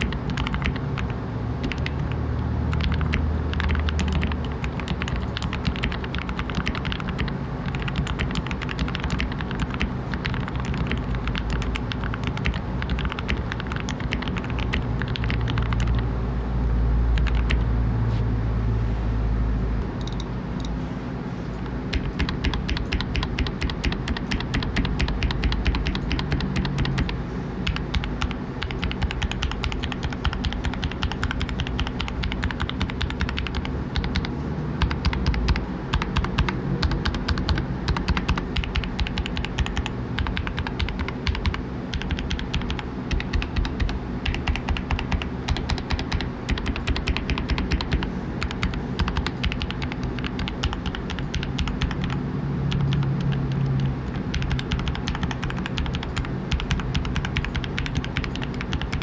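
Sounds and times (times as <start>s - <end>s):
mechanical keyboard typing: 0.0s - 16.0s, 17.2s - 17.6s, 20.0s - 20.3s, 21.9s - 59.0s.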